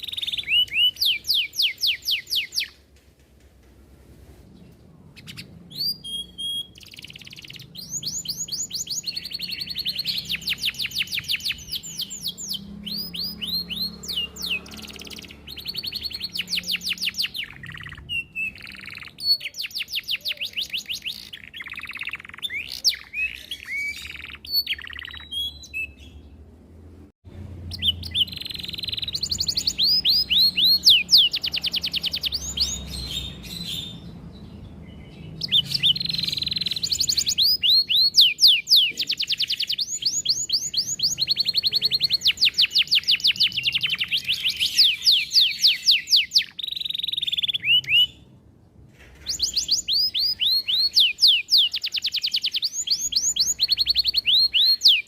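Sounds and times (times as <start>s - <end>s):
canary singing trills: 0.0s - 2.8s, 4.8s - 26.5s, 27.6s - 48.4s, 49.1s - 55.0s.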